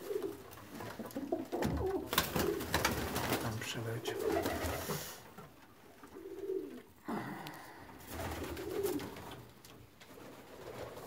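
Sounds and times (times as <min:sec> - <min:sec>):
pigeons cooing: 0:00.0 - 0:03.4, 0:04.0 - 0:09.5.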